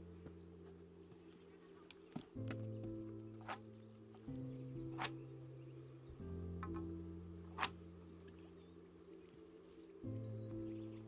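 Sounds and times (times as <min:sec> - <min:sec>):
faint background music chord: 0:00.0 - 0:11.0.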